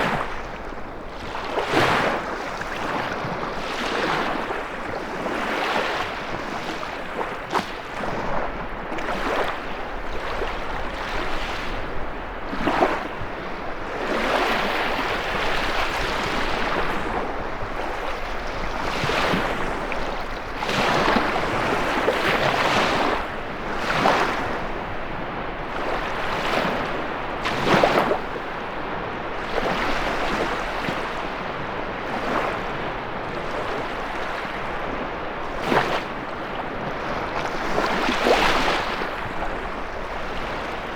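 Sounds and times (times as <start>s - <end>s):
steady wind: 0.0s - 40.9s
waves breaking and washing in: 0.0s - 40.9s.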